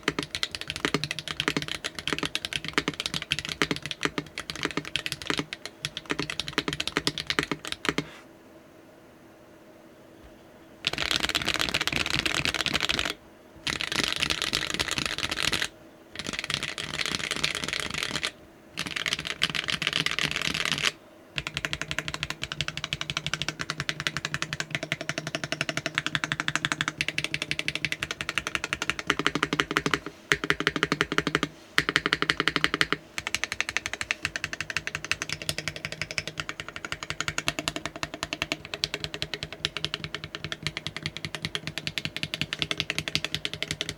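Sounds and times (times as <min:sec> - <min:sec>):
mechanical keyboard typing: 0:00.0 - 0:08.1, 0:10.8 - 0:43.9.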